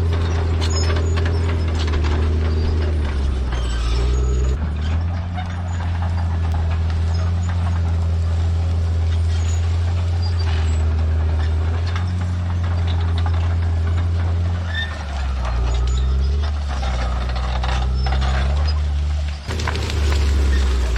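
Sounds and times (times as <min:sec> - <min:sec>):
bulldozer diesel engine droning: 0:00.0 - 0:20.9.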